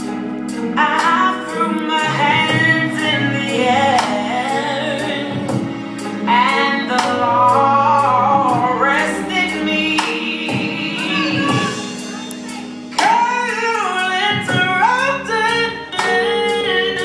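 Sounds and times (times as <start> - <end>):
held chords and steady beat: 0.0 - 17.0
woman singing gospel song: 0.8 - 17.0.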